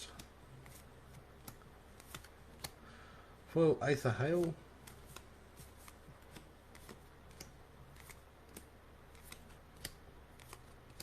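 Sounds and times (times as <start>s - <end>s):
cards being flipped: 0.1s - 2.8s, 4.2s - 11.0s.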